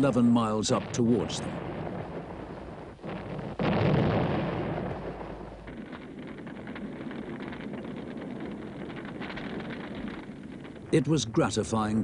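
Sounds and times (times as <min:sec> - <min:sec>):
loud explosion: 0:00.0 - 0:11.8
faint crackling battle noise: 0:00.0 - 0:12.0.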